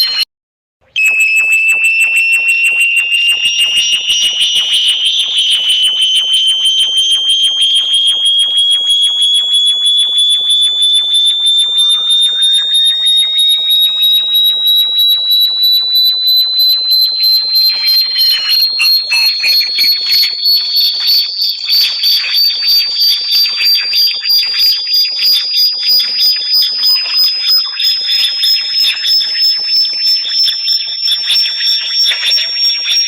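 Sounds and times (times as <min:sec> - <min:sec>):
pulsing high whistle tone: 0:00.0 - 0:00.3, 0:00.9 - 0:33.0.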